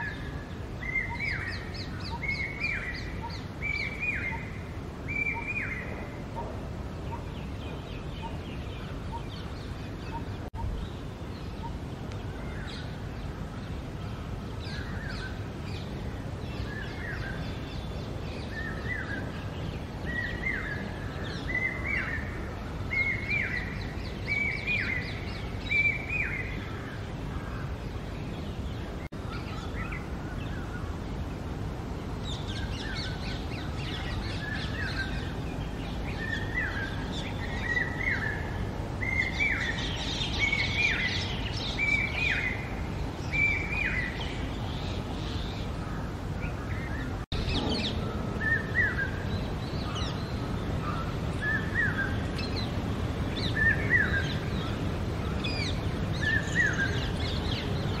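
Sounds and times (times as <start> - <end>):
birds chirping faintly: 0.0 - 58.0
steady low background noise: 0.0 - 58.0.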